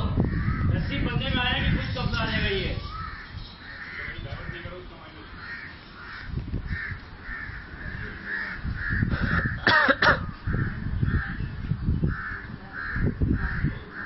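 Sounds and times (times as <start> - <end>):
birds calling harshly: 0.0 - 14.0
sharp bird cry: 1.8 - 14.0.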